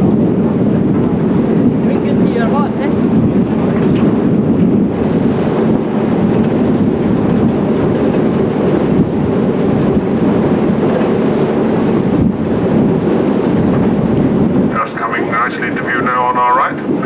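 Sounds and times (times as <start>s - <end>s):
paddle wheels and steam engine rumble: 0.0s - 17.0s
wind buffeting microphone: 0.0s - 17.0s.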